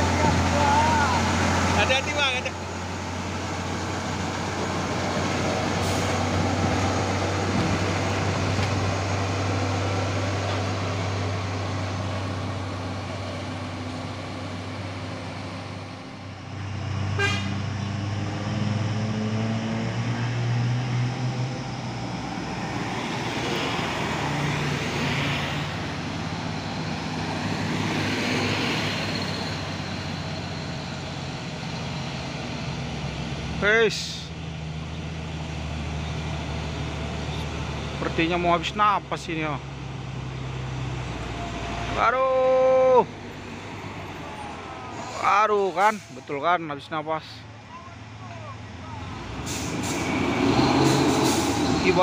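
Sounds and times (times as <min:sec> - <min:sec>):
truck engine revving under load: 0:00.0 - 0:33.7, 0:34.3 - 0:46.4, 0:47.5 - 0:52.0
truck engine drone: 0:00.0 - 0:52.0.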